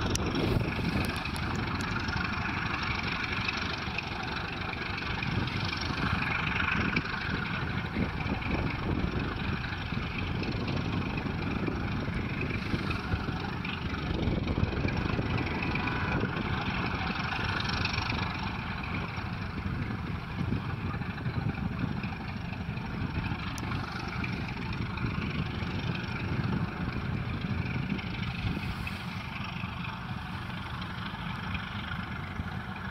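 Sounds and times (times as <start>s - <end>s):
diesel locomotive engines rumbling: 0.0s - 32.9s.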